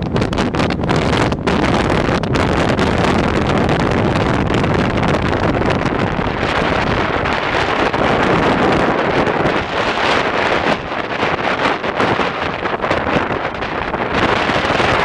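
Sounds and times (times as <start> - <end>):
moving vehicle: 0.0 - 15.0
wind on microphone: 0.0 - 15.0.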